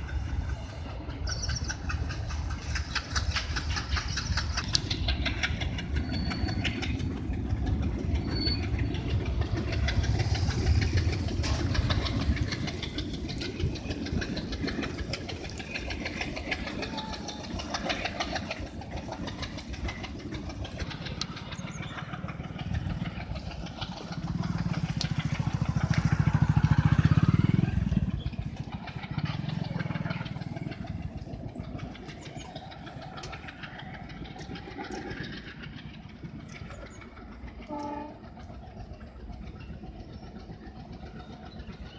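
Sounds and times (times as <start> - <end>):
diesel locomotive engine rumble: 0.0 - 41.9.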